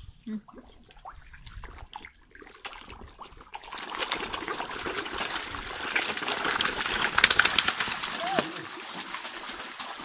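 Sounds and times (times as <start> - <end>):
fish splashing at water surface: 0.5 - 10.0.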